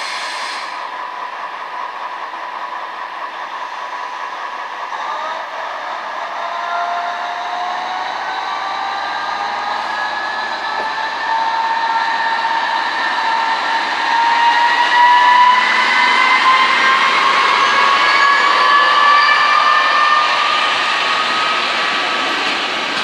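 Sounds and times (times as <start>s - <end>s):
diesel railcar engine whine: 0.0s - 23.0s.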